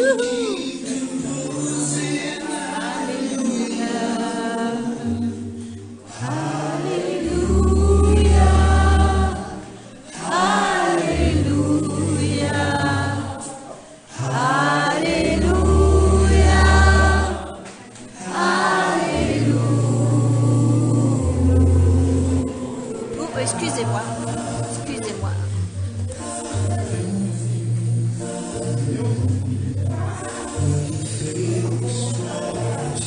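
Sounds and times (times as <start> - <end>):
group singing together: 0.0 - 33.0.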